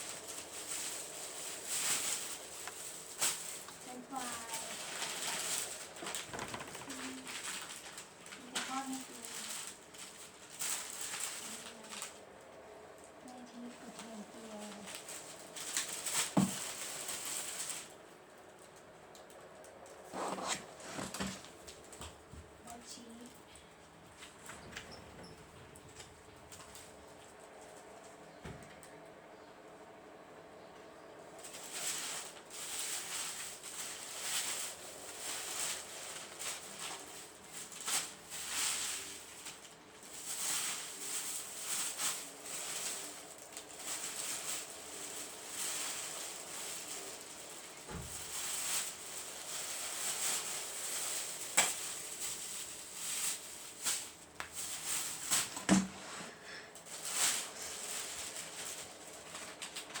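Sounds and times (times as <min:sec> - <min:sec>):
parrot rustling and scratching: 0:00.0 - 0:28.4, 0:31.3 - 1:00.0.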